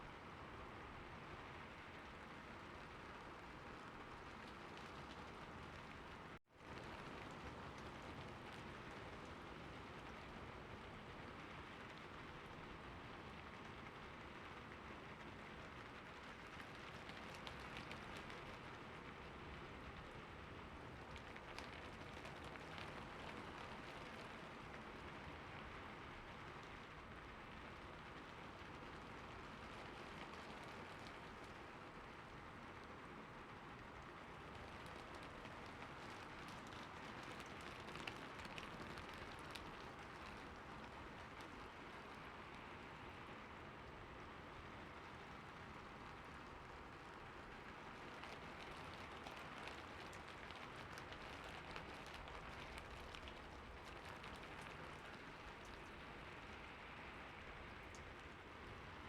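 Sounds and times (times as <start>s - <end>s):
light rain hiss: 0.0s - 59.0s
raindrops hitting: 2.0s - 59.0s.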